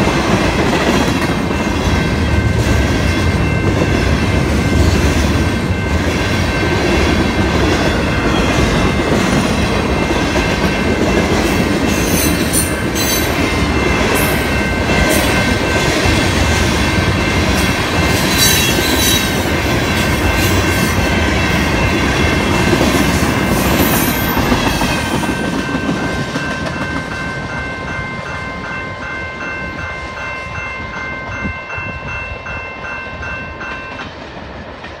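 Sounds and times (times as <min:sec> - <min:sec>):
freight train wheels on rails: 0:00.0 - 0:35.0
railroad crossing bell ringing: 0:00.0 - 0:35.0.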